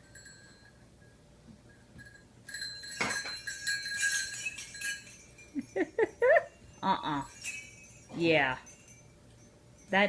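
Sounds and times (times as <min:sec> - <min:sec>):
small bells jangling: 0:00.0 - 0:10.0.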